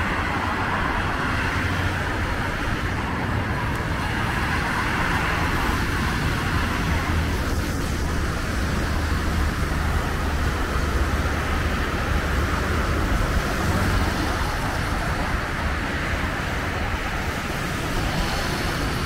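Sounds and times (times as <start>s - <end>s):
cars and motorbikes passing: 0.0s - 19.0s.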